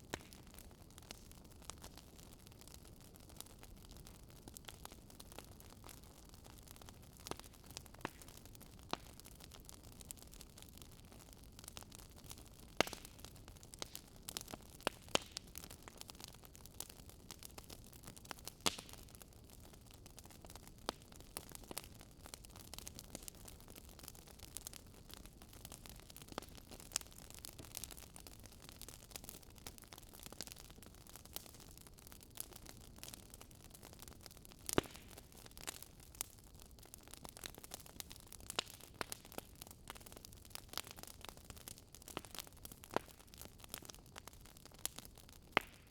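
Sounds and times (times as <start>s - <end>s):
low hiss of burning: 0.0s - 45.9s
wood fire crackling and popping: 0.0s - 45.9s.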